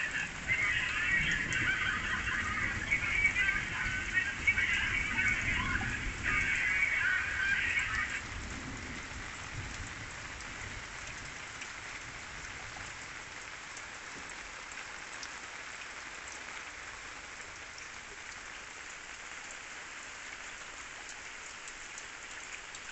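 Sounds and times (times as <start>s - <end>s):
raindrops ticking: 0.0s - 22.9s
steady rain hiss: 0.0s - 22.9s.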